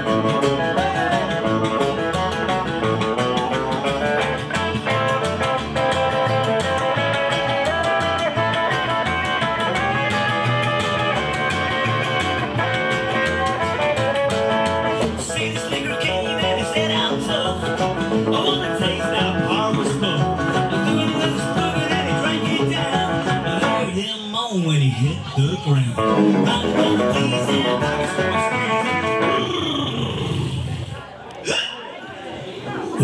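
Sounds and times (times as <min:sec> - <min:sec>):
lead guitar: 0:00.0 - 0:24.0, 0:24.6 - 0:31.4
live band playing: 0:00.0 - 0:24.2, 0:24.8 - 0:31.0.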